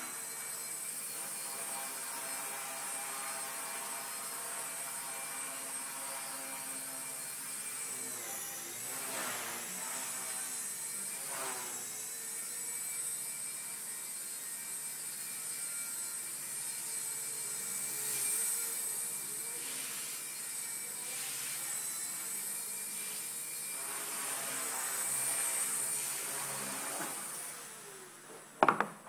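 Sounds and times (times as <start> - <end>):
toy helicopter rotors whining: 0.0 - 28.8.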